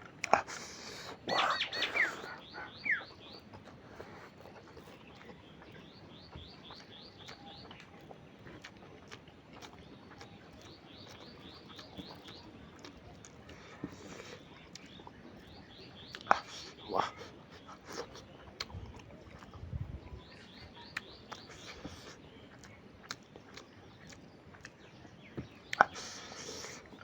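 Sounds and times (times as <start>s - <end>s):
birds chirping: 0.1s - 27.0s.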